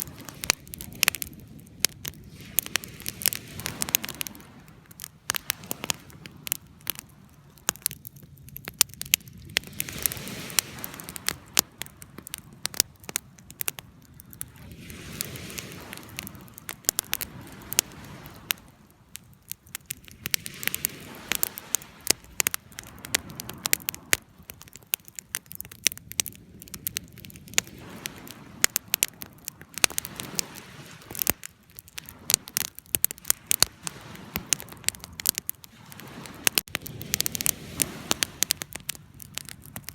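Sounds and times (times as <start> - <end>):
rushing of flame: 0.0 - 39.9
wood fire crackling and popping: 0.0 - 39.9.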